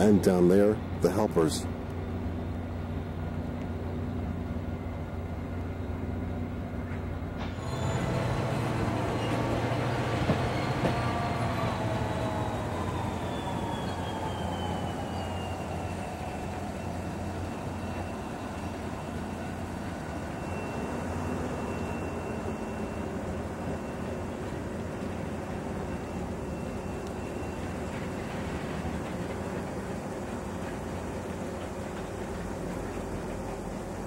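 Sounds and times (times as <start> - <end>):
diesel locomotives idling: 0.0 - 34.0
train coaches rumbling on rails: 0.0 - 34.0.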